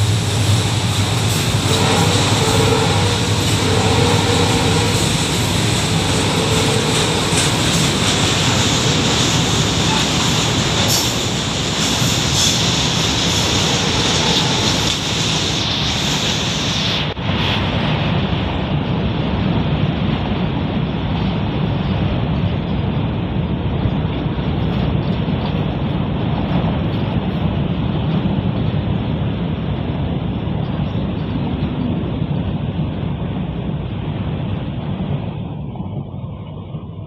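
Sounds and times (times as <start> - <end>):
freight train wheels rumbling on rails: 0.0 - 37.0.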